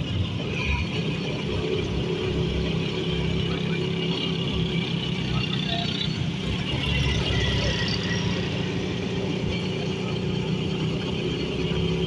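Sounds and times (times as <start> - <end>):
motorcycle engine running: 0.0 - 12.0
road and wind noise: 0.0 - 12.0
surrounding traffic: 0.0 - 12.0.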